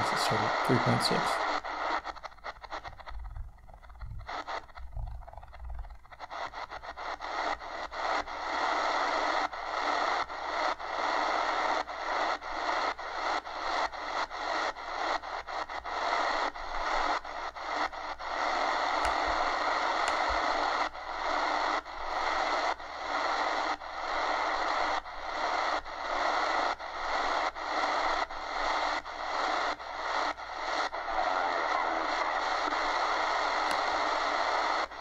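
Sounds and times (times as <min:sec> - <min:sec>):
radio static hissing: 0:00.0 - 0:35.0.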